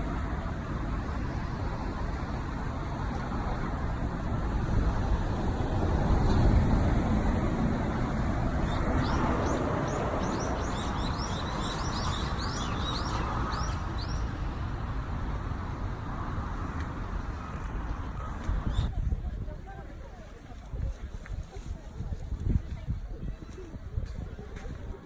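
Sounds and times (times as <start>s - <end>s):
low traffic rumble: 0.0s - 25.0s.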